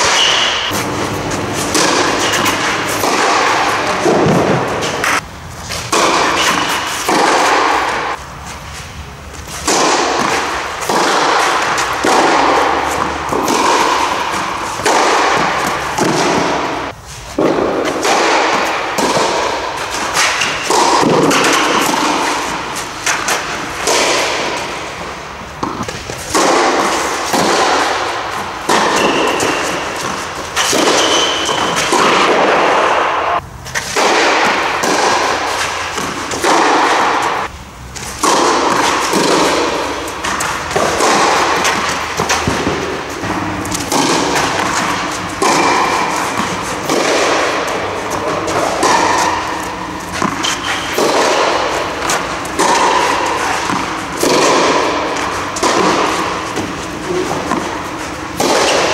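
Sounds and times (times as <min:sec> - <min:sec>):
tennis ball bouncing on clay: 0:00.0 - 0:08.2, 0:09.3 - 0:58.9
tennis racket hitting ball: 0:00.0 - 0:58.9.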